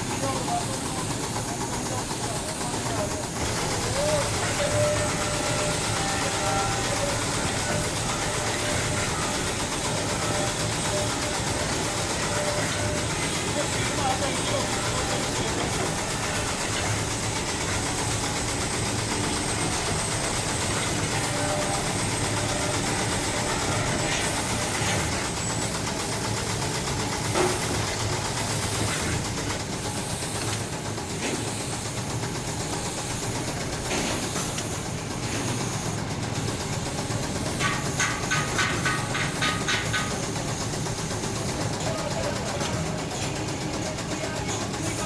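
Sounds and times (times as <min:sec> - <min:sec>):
factory machinery hissing: 0:00.0 - 0:45.0.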